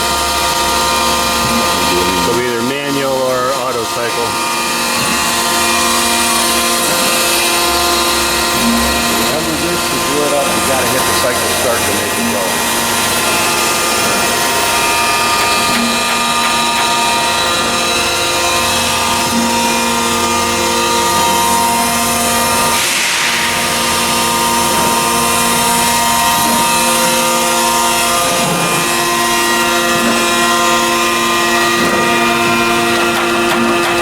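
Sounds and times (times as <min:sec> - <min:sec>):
surface grinder humming: 0:00.0 - 0:34.0.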